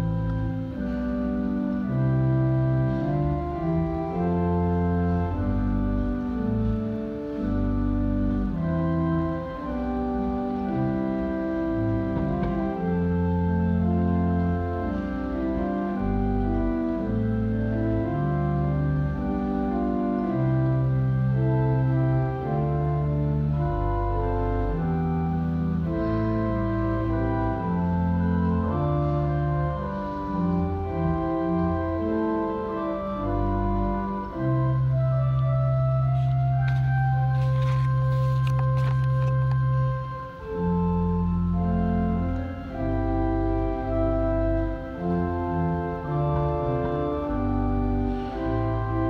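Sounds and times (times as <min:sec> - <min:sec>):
church organ playing chords: 0:00.0 - 0:49.0.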